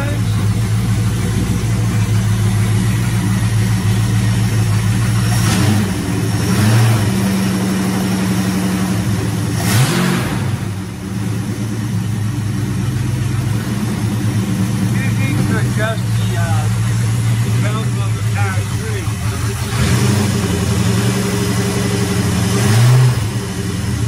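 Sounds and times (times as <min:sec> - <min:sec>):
car engine idling: 0:00.0 - 0:24.0
engine throttle blips: 0:00.0 - 0:24.0.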